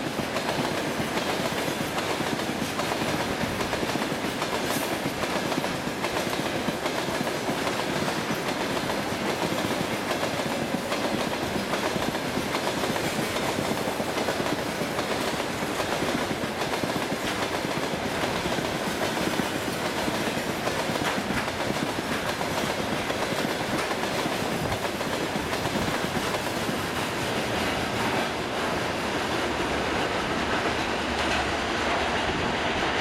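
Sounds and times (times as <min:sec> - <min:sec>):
freight train rolling past: 0:00.0 - 0:33.0.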